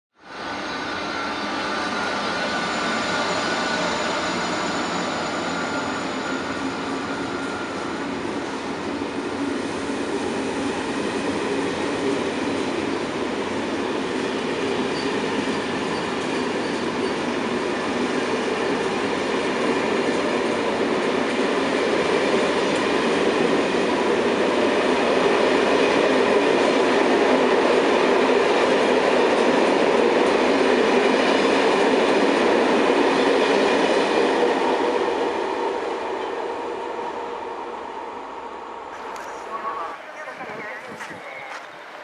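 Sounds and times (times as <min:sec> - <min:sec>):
train wheels rumbling on rails: 0:00.3 - 0:38.0, 0:38.9 - 0:42.0.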